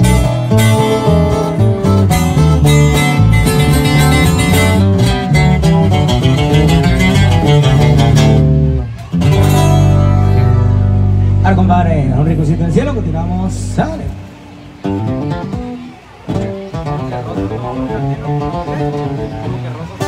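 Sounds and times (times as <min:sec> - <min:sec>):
acoustic guitars playing: 0:00.0 - 0:20.0.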